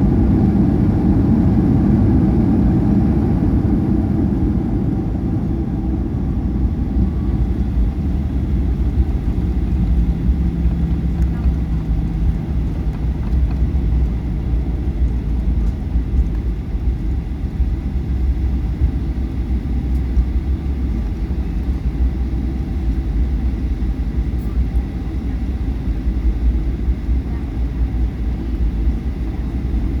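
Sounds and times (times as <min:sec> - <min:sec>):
airliner landing rumble: 0:00.0 - 0:30.0.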